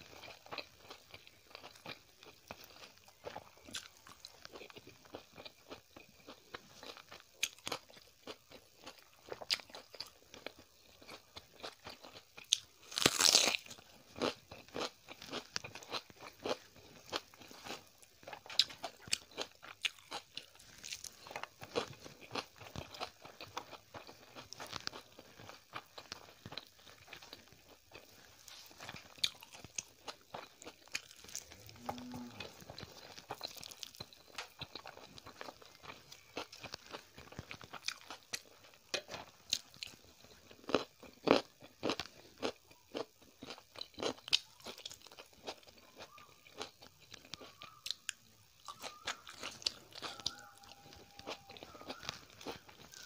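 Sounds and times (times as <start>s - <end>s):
close chewing with crunchy bites: 0.0s - 53.0s.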